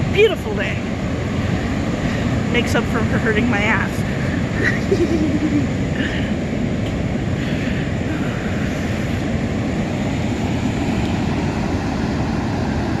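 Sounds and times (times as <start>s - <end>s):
heavy ocean surf rumbling: 0.0s - 13.0s.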